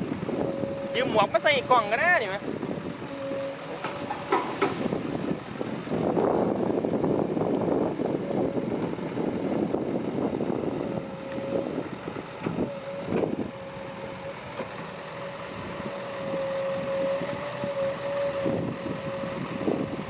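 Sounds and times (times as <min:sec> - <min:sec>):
diesel earthmoving machinery rumbling: 0:00.0 - 0:20.0.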